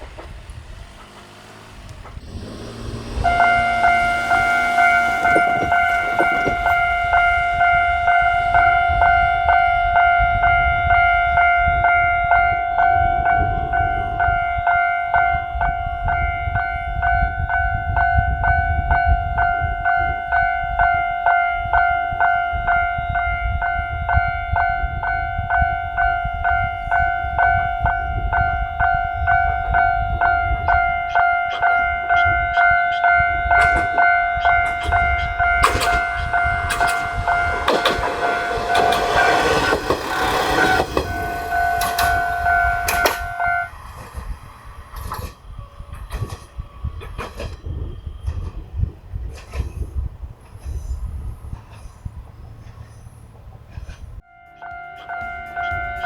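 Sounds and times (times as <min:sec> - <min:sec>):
railroad crossing alarm bell: 0:00.0 - 0:53.6, 0:54.2 - 0:56.0.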